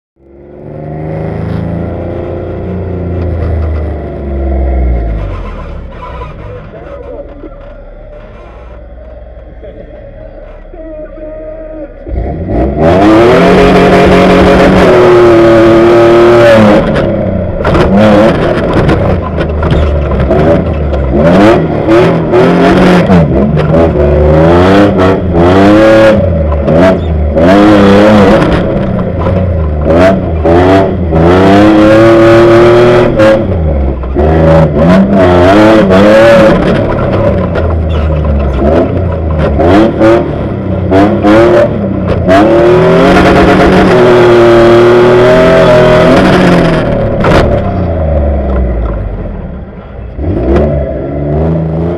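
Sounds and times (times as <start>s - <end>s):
truck engine revving: 0.2s - 51.9s.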